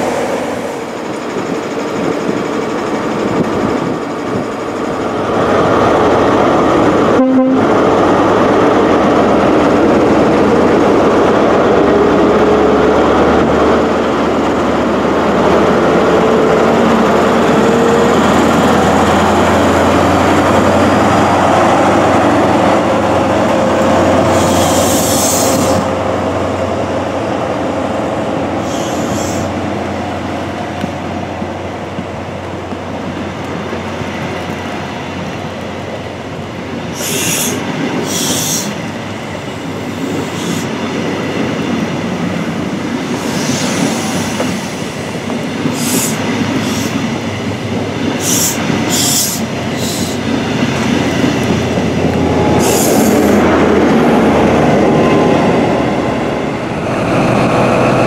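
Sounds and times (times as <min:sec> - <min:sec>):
diesel locomotive engine hum: 0:00.0 - 0:58.0
train wheel noise: 0:00.0 - 0:58.0.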